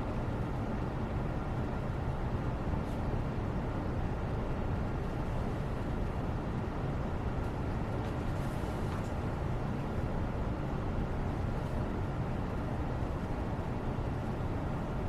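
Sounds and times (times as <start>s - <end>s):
low background rush: 0.0s - 15.0s.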